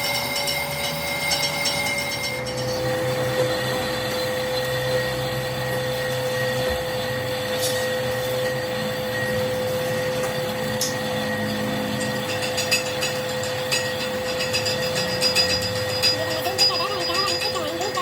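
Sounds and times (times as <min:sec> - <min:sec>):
workshop machine whining: 0:00.0 - 0:18.0.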